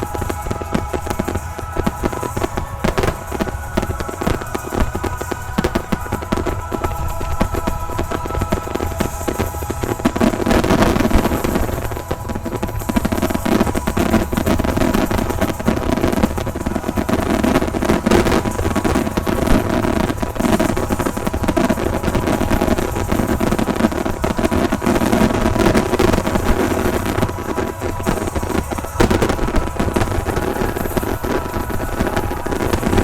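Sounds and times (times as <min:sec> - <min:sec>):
fireworks bursting: 0:00.0 - 0:33.0
sharp cracks of fireworks: 0:00.0 - 0:33.0.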